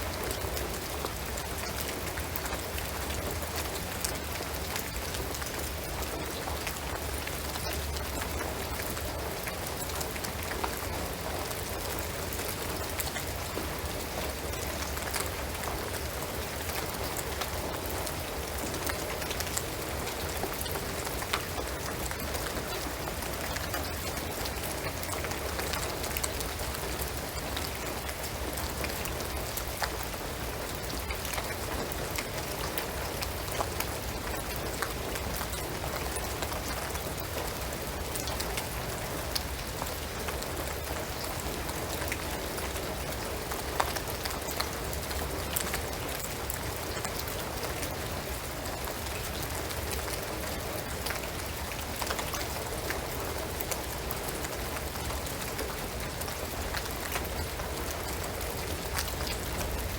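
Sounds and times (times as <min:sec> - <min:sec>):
raindrop ticks: 0:00.0 - 0:59.9
steady rain on roof and trees: 0:00.0 - 0:59.9.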